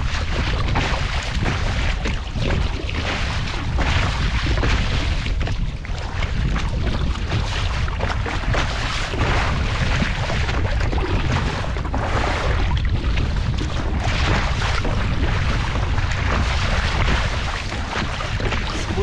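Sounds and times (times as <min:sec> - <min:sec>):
choppy sea splashing: 0:00.0 - 0:19.0
wind buffeting microphone: 0:00.0 - 0:19.0.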